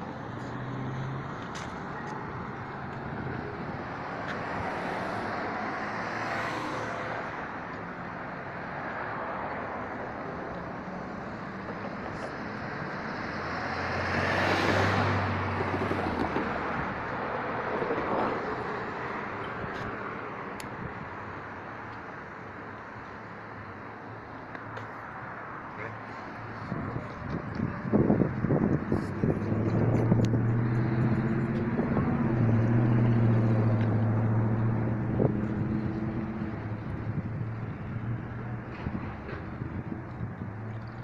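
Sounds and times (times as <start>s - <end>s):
vehicles passing: 0.0s - 41.0s.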